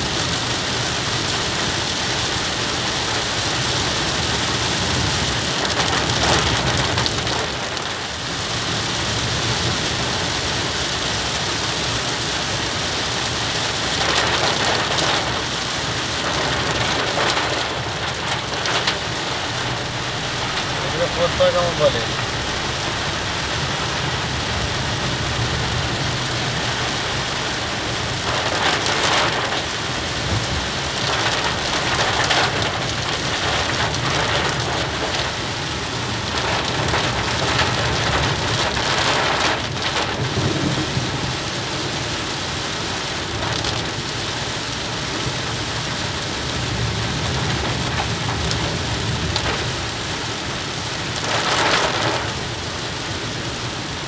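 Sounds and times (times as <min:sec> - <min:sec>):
car driving on wet road: 0:00.0 - 0:54.0
heavy rain on car roof: 0:00.0 - 0:54.0.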